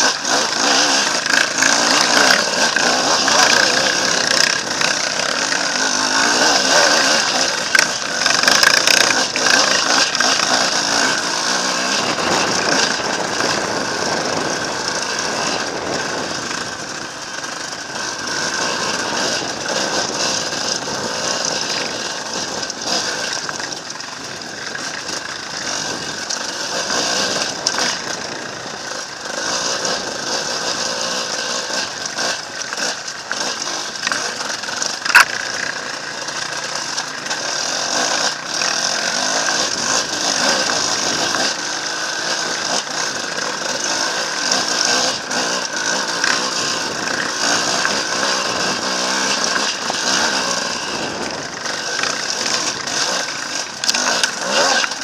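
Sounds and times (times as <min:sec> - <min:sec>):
bike rattling over stones: 0:00.0 - 0:55.0
motorcycle engine revving: 0:00.0 - 0:55.0.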